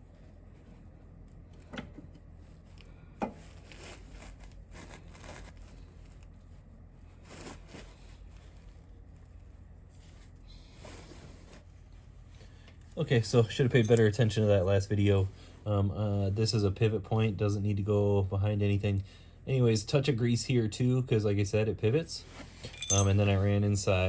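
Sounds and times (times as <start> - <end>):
soft rustles and scrapes: 0.0 - 17.7, 21.2 - 24.0
low steady hum: 0.0 - 24.0.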